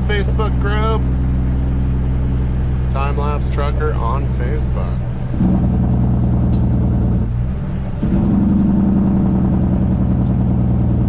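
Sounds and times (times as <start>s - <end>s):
diesel truck engine under load: 0.0s - 11.0s.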